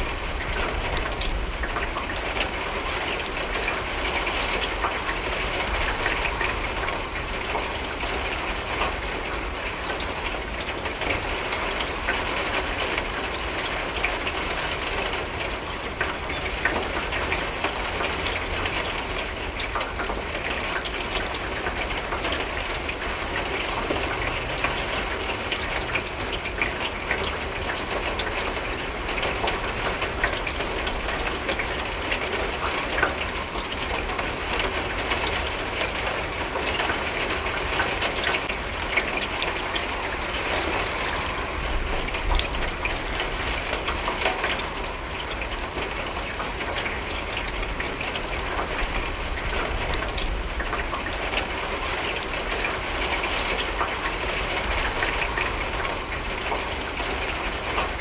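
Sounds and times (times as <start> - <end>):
rain pattering on window glass: 0.0 - 58.0.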